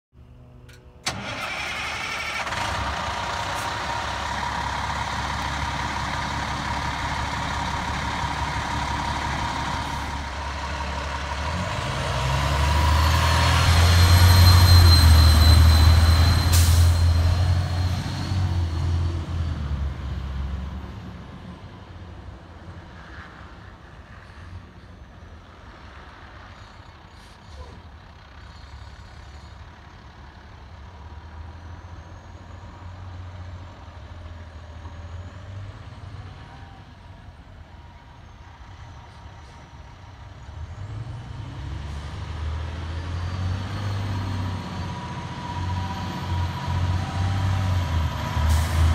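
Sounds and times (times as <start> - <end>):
diesel truck engine passing: 1.0 - 48.9.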